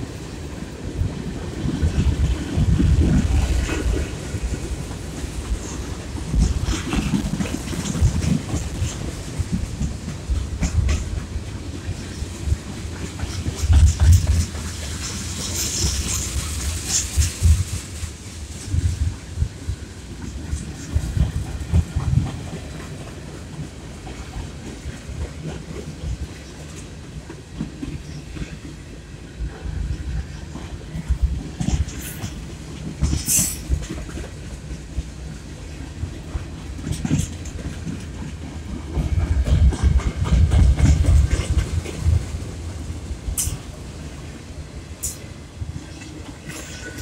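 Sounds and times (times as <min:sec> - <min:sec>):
freight train wheels rumbling and clattering: 0:00.0 - 0:47.0.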